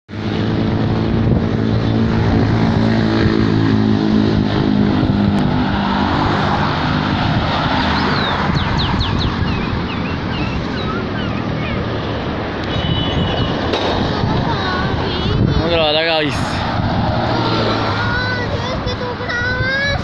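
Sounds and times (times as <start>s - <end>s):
rushing traffic and wind: 0.1s - 20.0s
vehicle engine humming: 0.1s - 20.0s.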